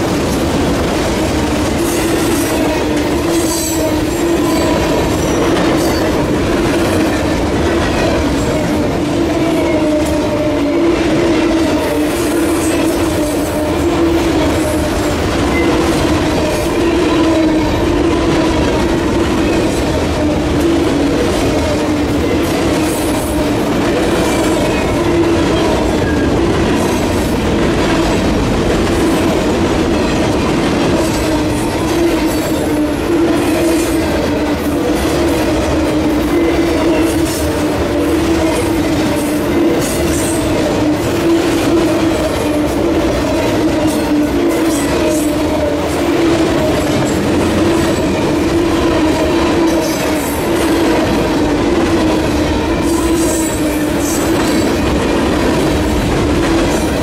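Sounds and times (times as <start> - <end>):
freight train cars rolling past: 0.0 - 57.0
wheels on rail: 0.0 - 57.0.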